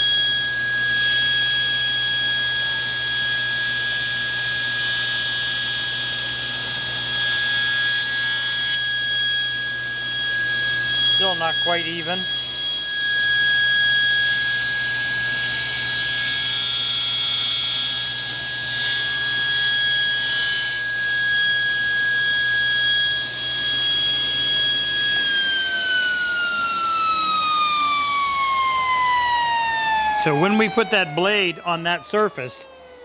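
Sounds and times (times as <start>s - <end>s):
table saw whine: 0.0s - 33.0s.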